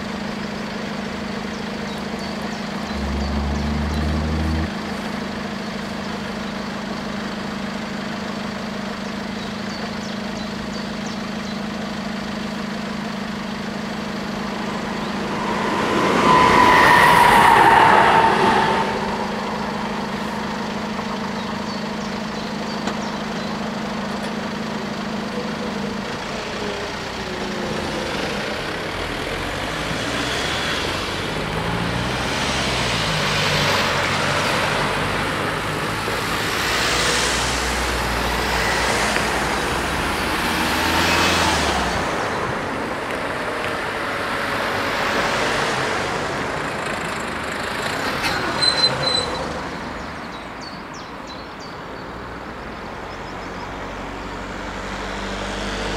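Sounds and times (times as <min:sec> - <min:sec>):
cars passing: 0:00.7 - 0:07.3, 0:12.2 - 0:55.9.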